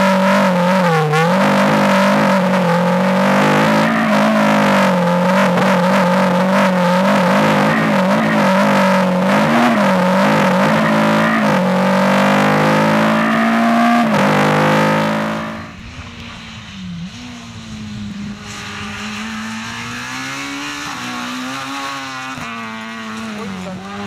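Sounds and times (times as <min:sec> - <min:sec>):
rally car engine revving inside: 0:00.0 - 0:15.8, 0:18.4 - 0:24.0.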